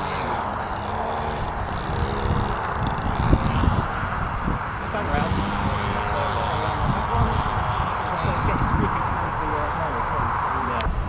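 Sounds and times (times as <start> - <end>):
model plane engine passing: 0.0 - 10.8
wind buffeting microphone: 0.0 - 11.0.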